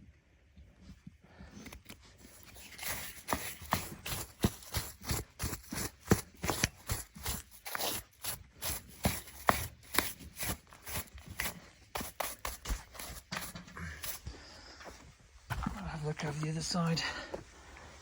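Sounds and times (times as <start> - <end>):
stones and soil scraping: 1.5 - 17.0.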